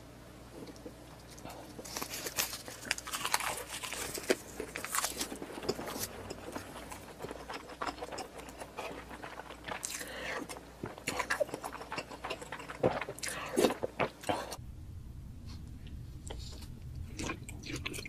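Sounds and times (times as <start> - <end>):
person chewing: 0.6 - 14.6, 16.2 - 18.0.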